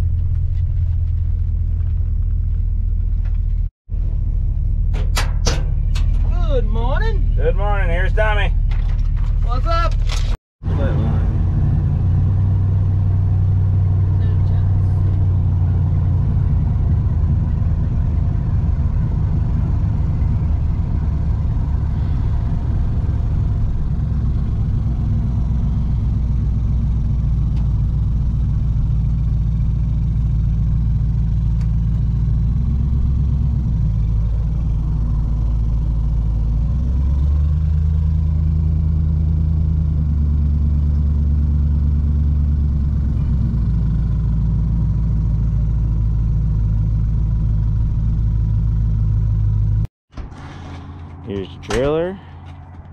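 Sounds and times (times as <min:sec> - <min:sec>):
road noise: 0:00.0 - 0:52.9
vehicle engine droning: 0:00.0 - 0:52.9.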